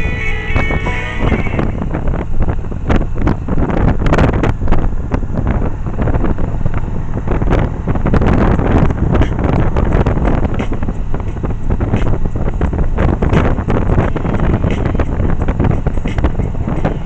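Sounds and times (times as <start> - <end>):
motorcycle engine rumble: 0.0 - 17.0
wind buffeting microphone: 0.0 - 17.0.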